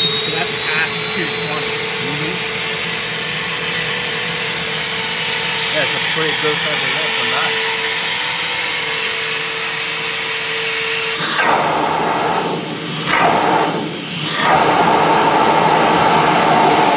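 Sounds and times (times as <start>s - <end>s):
vacuum motors whining: 0.0s - 16.9s.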